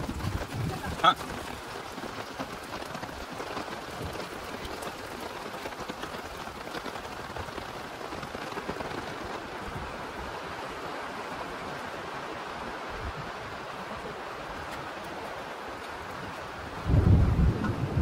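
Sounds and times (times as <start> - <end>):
rain on roofs and ground: 0.0 - 18.0.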